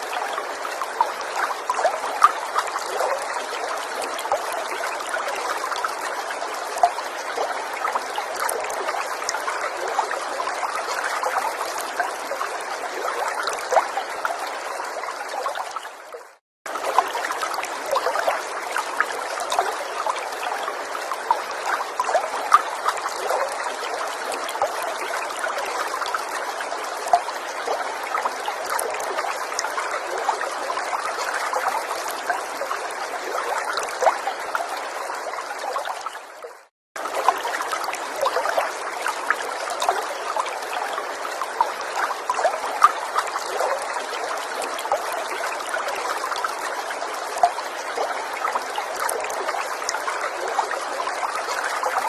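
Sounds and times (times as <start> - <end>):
stream trickling and babbling: 0.0 - 52.0.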